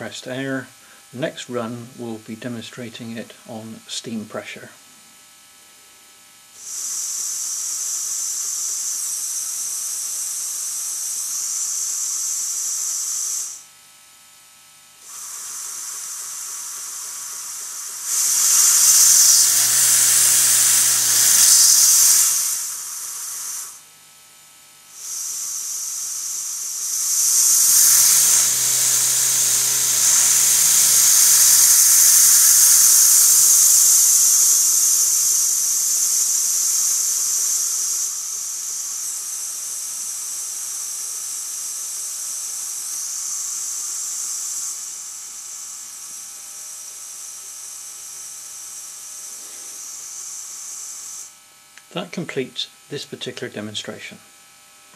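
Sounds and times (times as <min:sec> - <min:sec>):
model steam engine exhaust hissing: 0:00.0 - 0:04.9, 0:06.4 - 0:13.8, 0:15.0 - 0:24.0, 0:24.8 - 0:54.2.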